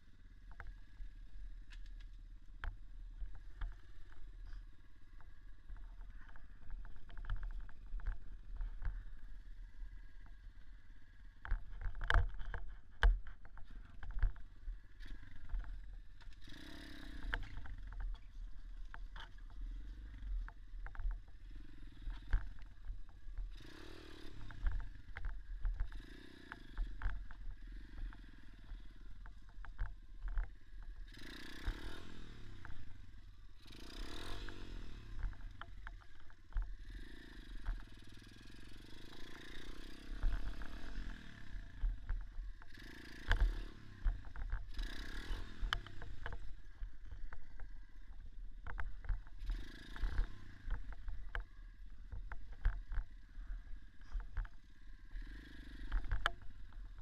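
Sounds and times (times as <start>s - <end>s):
motorcycle engine revving: 2.6s - 57.0s.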